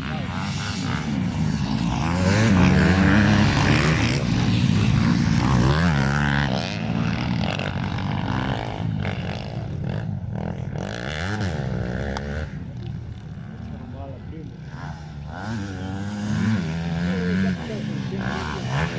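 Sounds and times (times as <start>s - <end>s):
motorcycle engines revving: 0.0s - 18.9s.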